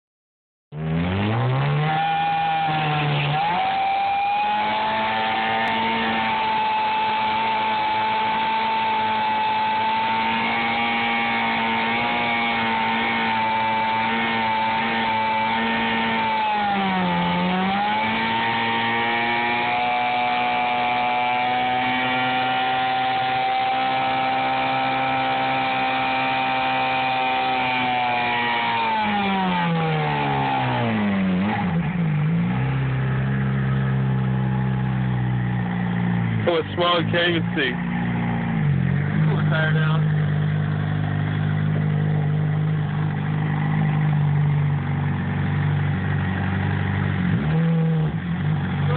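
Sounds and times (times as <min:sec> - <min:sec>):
motorcycle engine revving high: 0:00.8 - 0:48.9.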